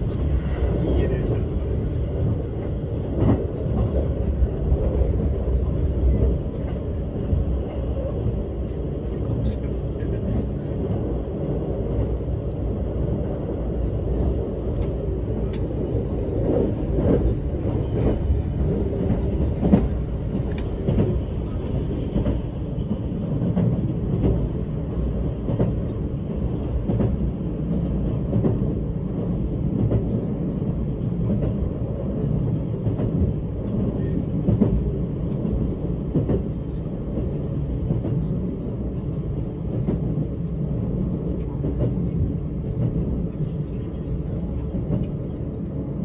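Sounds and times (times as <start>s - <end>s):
train running rumble: 0.0s - 46.0s.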